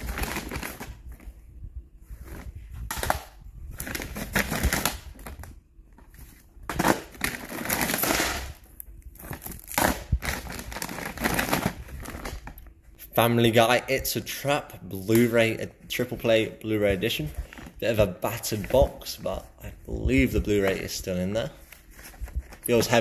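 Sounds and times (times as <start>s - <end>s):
plastic bag rustling: 0.0s - 1.4s, 2.0s - 12.7s, 15.0s - 23.0s.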